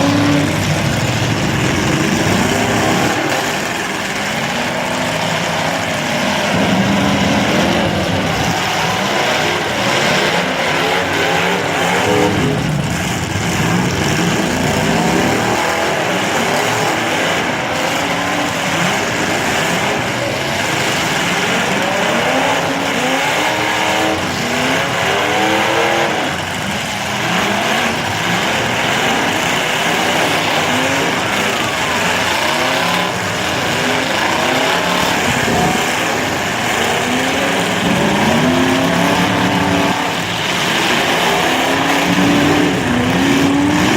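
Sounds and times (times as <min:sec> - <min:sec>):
car engines revving hard: 0:00.0 - 0:43.9.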